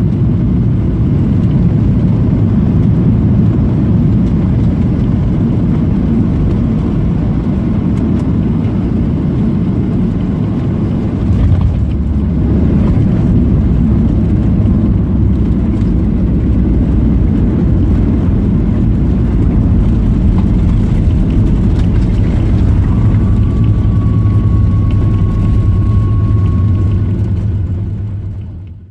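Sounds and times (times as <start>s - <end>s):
aircraft cabin engine rumble: 0.0s - 28.9s.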